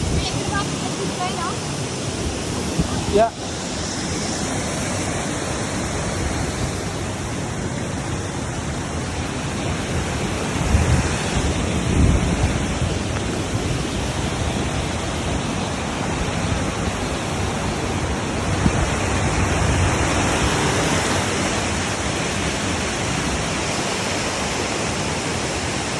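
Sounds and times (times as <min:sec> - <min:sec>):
waterfall roaring: 0:00.0 - 0:25.9.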